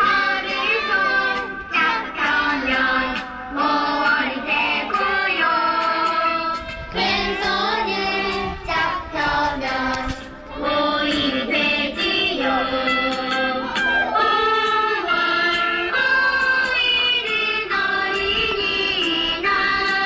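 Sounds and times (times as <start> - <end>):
children and women singing: 0.0 - 20.0.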